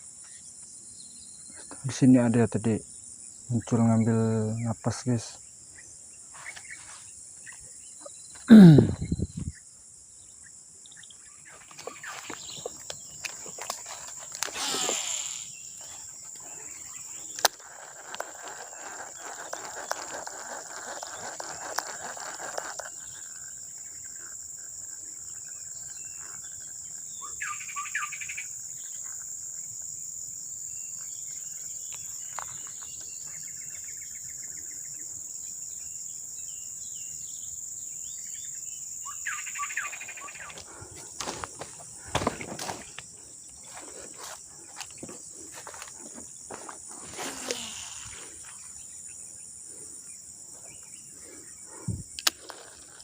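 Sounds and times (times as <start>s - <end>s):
crickets chirring: 0.0s - 53.0s.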